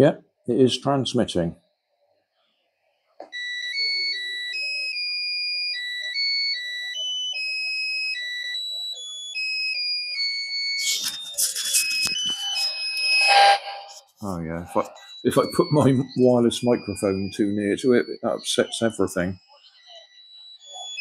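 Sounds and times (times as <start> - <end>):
electronic beeping melody on radio: 3.2 - 21.0.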